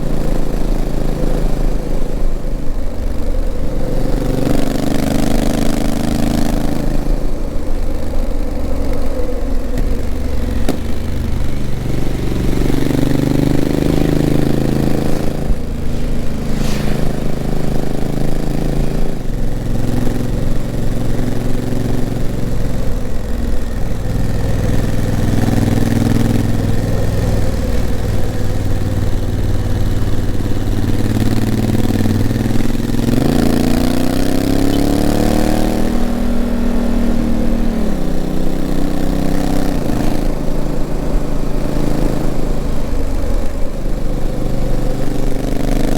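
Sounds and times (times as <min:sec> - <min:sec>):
motorcycle engine shifting gears: 0:00.0 - 0:45.9.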